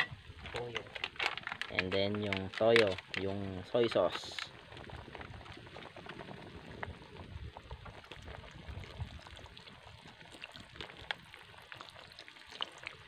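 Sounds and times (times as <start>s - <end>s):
faint fire crackles: 0.0s - 13.0s
liquid pouring in a thin stream: 0.0s - 13.0s
stew simmering in a wok: 0.0s - 13.0s.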